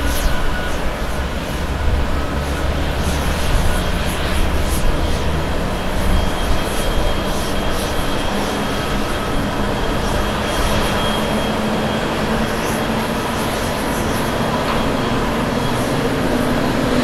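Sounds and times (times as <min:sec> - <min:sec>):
faint high engine whine: 0:00.0 - 0:17.0
jet engines rushing: 0:00.0 - 0:17.0.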